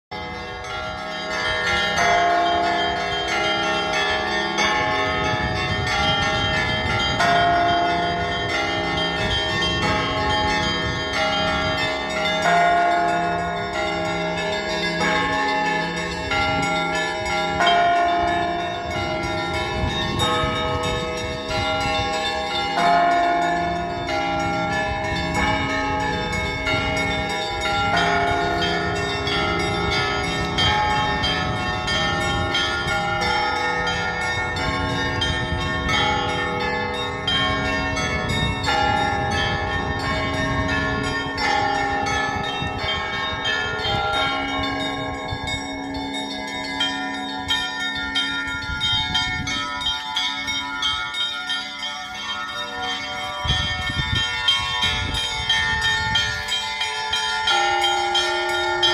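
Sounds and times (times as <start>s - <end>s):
church bells pealing: 0.1s - 58.9s.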